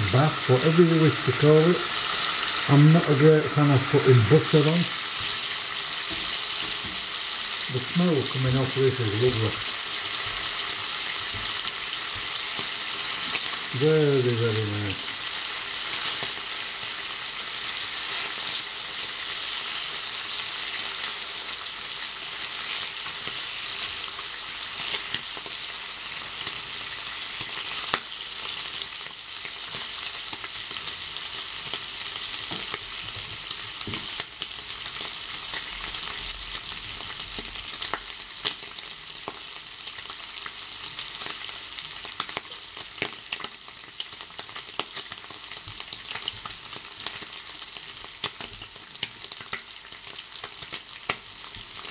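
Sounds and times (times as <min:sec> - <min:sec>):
bacon sizzling in a frying pan: 0:00.0 - 0:51.9.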